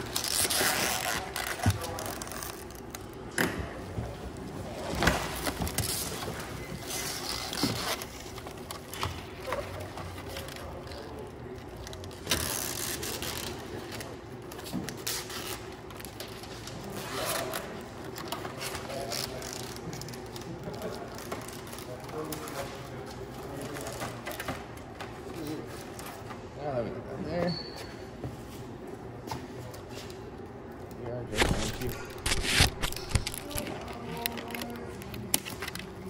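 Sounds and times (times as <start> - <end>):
tape peeling and rustling: 0.0 - 3.2, 4.9 - 26.3, 30.0 - 36.0.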